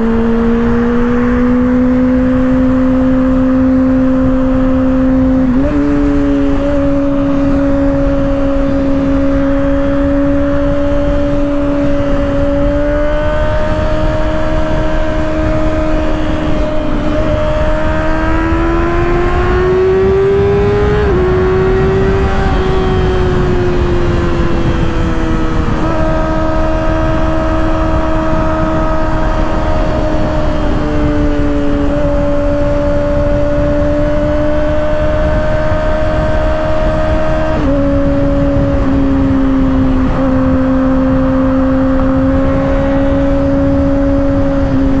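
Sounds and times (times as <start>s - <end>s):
motorcycle engine accelerating: 0.0s - 45.0s
wind rushing: 0.0s - 45.0s.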